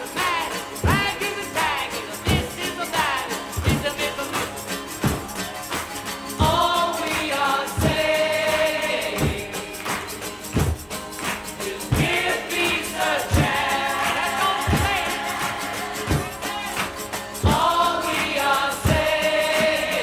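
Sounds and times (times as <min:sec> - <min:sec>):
voices singing over slow beat: 0:00.0 - 0:20.0.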